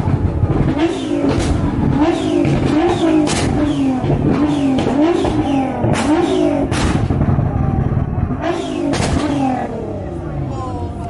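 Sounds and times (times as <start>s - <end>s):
sharp exhaust cracks: 0.0s - 10.0s
car engine revving: 0.0s - 11.0s.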